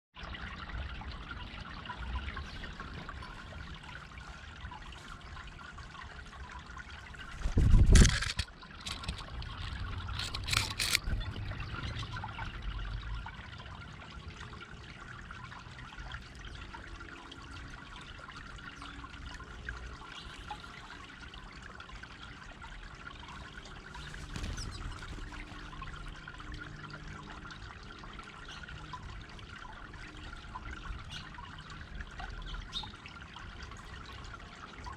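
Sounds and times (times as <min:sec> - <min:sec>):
fountain water trickling: 0:00.2 - 0:34.9.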